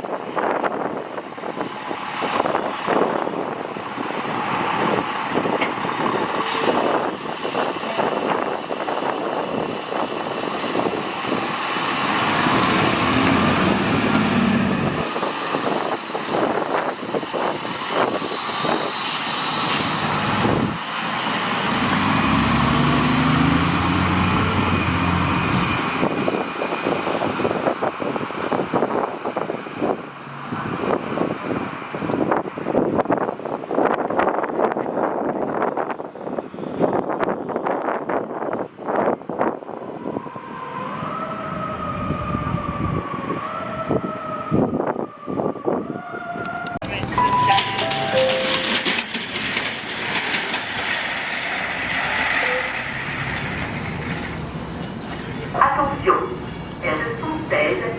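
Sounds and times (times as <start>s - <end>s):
fire truck engine under load: 0.0s - 57.9s
road noise: 0.0s - 57.9s.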